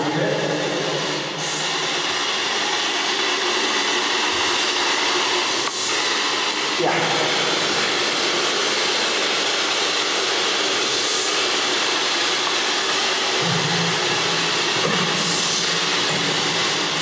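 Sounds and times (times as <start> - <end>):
loud static hiss: 0.0 - 17.0.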